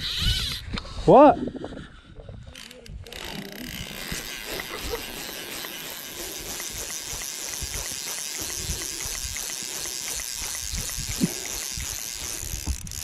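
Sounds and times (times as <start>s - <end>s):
wind buffeting microphone: 0.0s - 13.0s
fly reel ratchet ticking: 2.6s - 13.0s.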